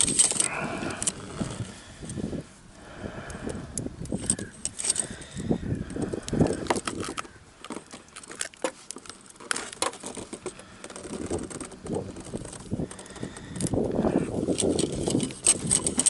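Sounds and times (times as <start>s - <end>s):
fishing tackle clicking and clinking: 0.0s - 1.2s, 3.2s - 13.8s, 14.4s - 16.0s.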